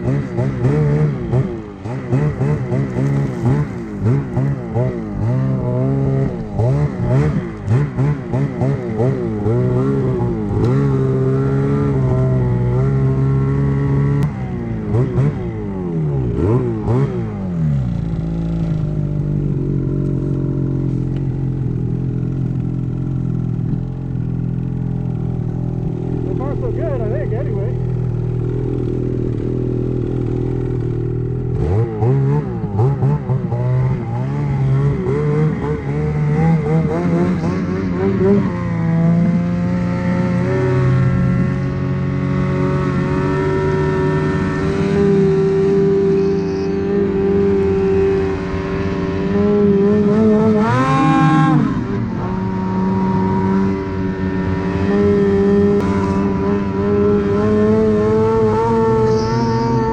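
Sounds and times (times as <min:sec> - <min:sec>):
snowmobile engine idling and revving: 0:00.0 - 0:59.9.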